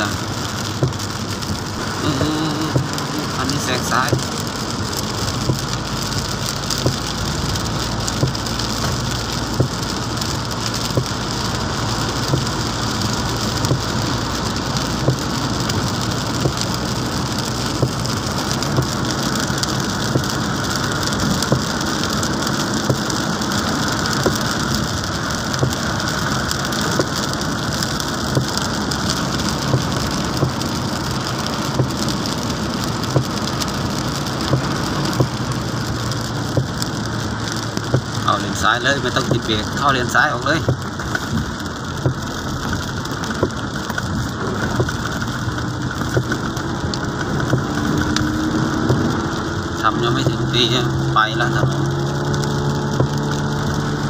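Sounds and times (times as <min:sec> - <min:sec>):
heavy rain on car roof: 0:00.0 - 0:54.0
low engine hum: 0:00.0 - 0:54.0
tyres hissing on wet road: 0:00.0 - 0:54.0.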